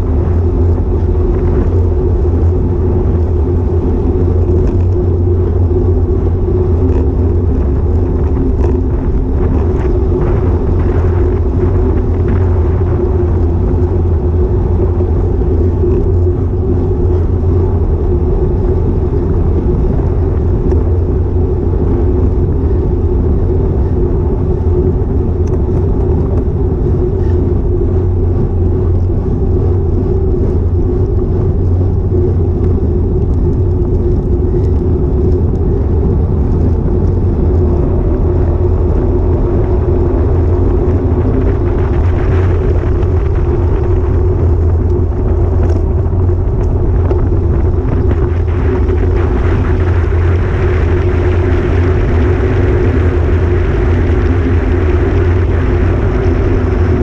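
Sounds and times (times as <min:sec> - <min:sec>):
bicycle road noise: 0:00.0 - 0:57.0
wind rumble: 0:00.0 - 0:57.0.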